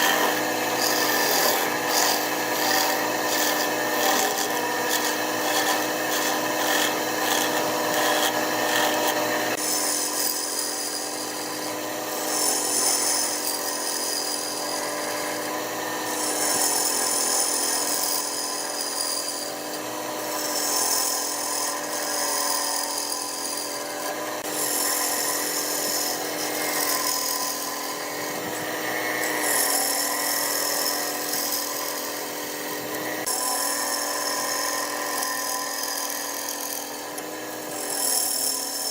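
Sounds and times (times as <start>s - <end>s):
cutting tool scraping wood: 0.0s - 38.9s
wood lathe motor whine: 0.0s - 38.9s.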